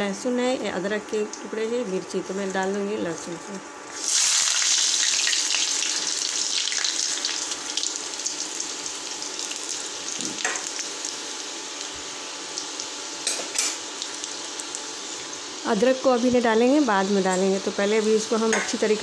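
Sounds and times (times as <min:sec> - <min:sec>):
food sizzling in hot oil: 0:00.8 - 0:19.0.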